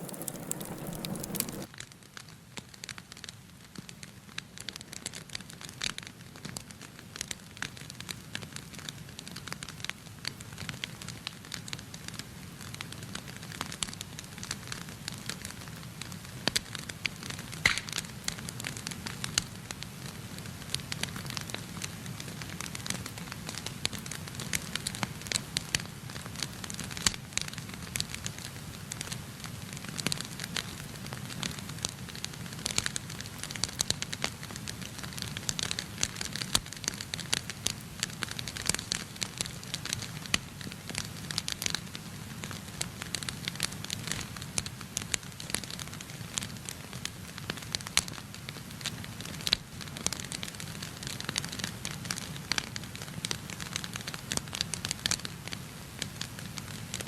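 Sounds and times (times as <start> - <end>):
low rumble of flames: 0.0 - 1.7, 12.0 - 57.0
wood fire crackling and popping: 0.0 - 57.0.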